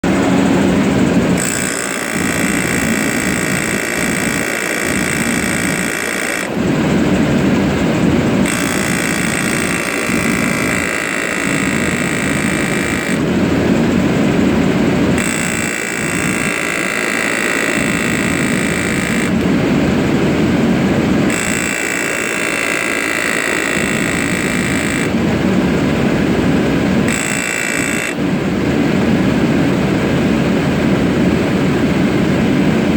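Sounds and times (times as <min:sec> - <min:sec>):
steady low rumble: 0:00.0 - 0:21.4, 0:23.7 - 0:27.2, 0:28.2 - 0:32.9
air compressor whining: 0:00.0 - 0:32.9.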